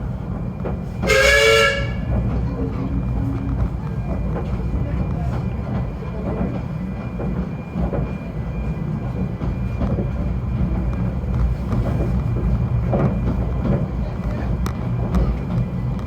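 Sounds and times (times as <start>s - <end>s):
train running low rumble: 0.0s - 16.0s.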